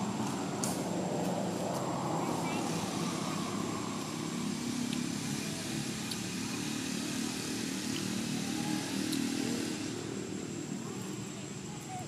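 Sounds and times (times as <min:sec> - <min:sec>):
engine running low drone: 0:00.0 - 0:12.0.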